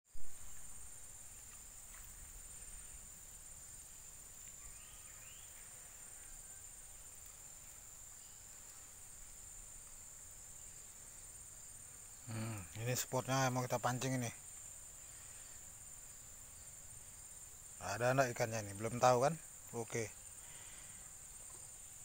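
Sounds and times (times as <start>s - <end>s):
faint chirps: 0.1s - 22.0s
insects droning: 0.1s - 22.0s.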